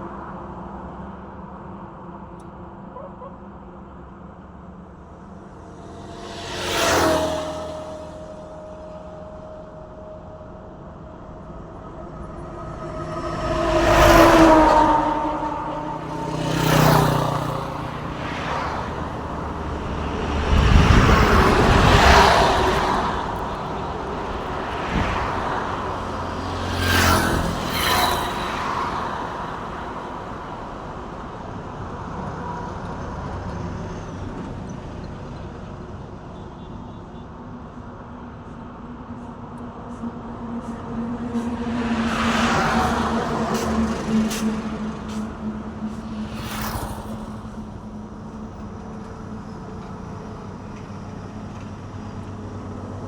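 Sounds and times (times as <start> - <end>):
traffic hum: 0.0 - 53.0
trucks passing by: 0.0 - 53.0.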